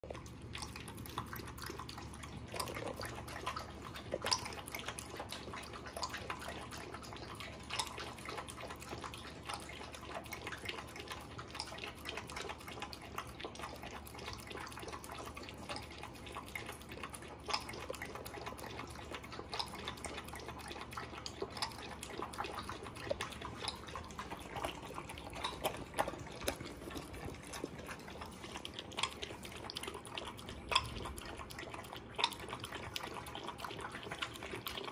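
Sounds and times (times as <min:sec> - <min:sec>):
dog lapping from metal bowl: 0:00.0 - 0:34.9.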